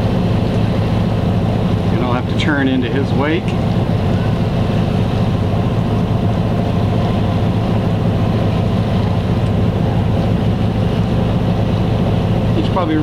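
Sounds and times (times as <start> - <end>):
boat engine droning steadily: 0.0 - 13.0.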